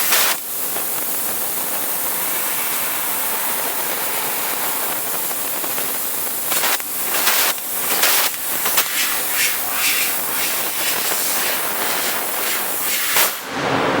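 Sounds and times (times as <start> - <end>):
laser cutter gas hiss: 0.0 - 13.6.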